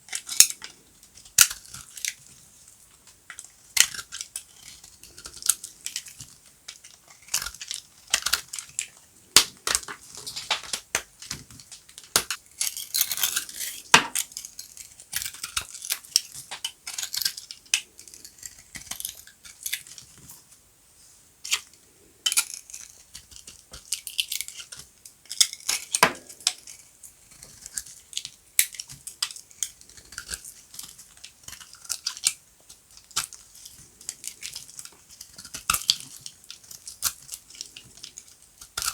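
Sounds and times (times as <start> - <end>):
soap cracking and crunching: 0.1 - 2.4, 3.0 - 20.2, 21.5 - 38.9.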